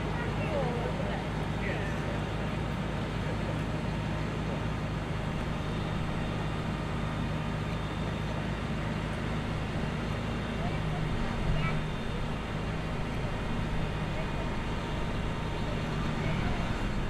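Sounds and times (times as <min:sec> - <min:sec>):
crane diesel engine running: 0:00.0 - 0:17.0.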